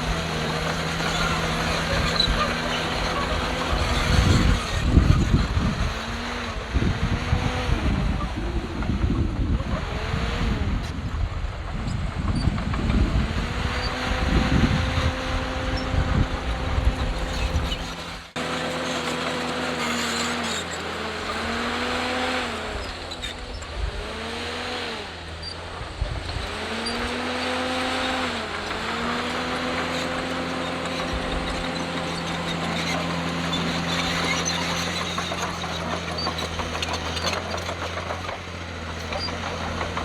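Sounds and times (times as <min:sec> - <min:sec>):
bulldozer diesel engine under load: 0:00.0 - 0:40.0.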